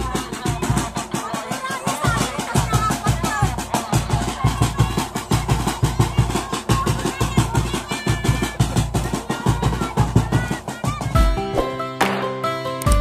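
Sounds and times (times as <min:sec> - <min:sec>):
fast drum beat: 0:00.0 - 0:13.0.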